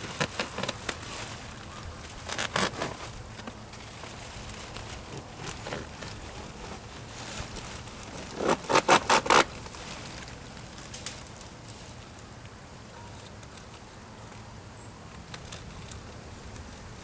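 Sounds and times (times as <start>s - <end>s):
faint rustling and handling: 0.0s - 14.5s.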